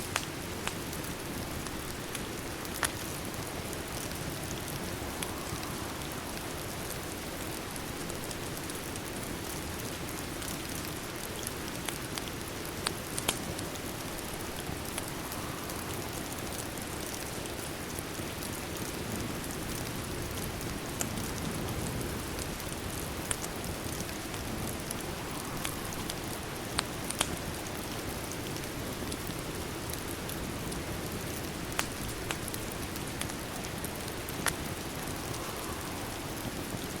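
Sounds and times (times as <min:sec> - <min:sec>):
steady rain: 0:00.0 - 0:37.0
wood fire popping and crackling: 0:00.0 - 0:37.0.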